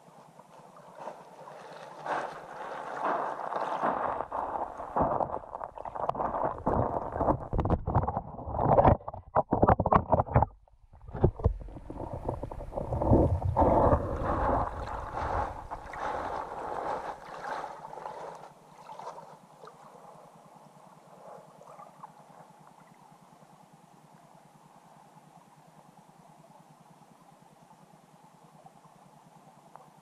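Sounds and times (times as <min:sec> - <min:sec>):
muffled underwater creek flow: 0:00.0 - 0:30.0.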